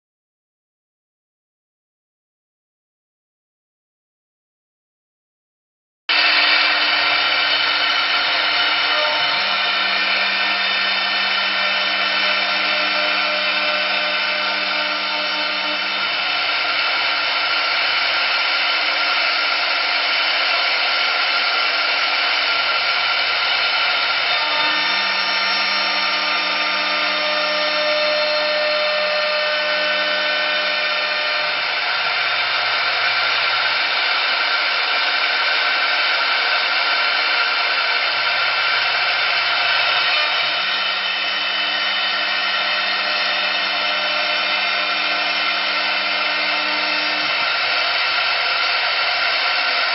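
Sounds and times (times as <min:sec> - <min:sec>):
lathe whirring: 0:06.1 - 0:49.9.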